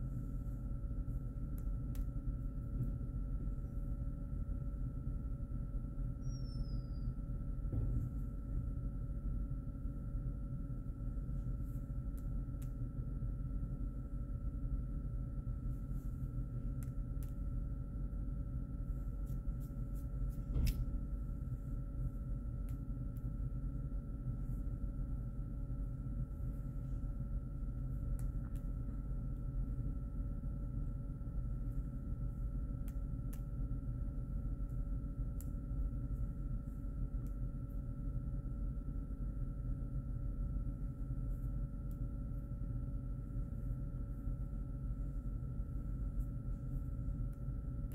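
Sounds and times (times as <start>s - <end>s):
faint constant whine: 0.0s - 47.9s
low room hum: 0.0s - 47.9s.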